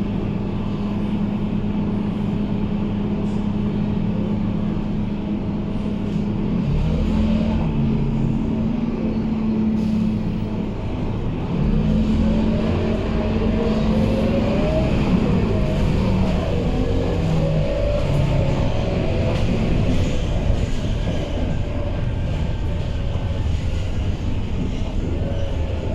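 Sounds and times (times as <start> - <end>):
bus engine accelerating: 0.0 - 25.9.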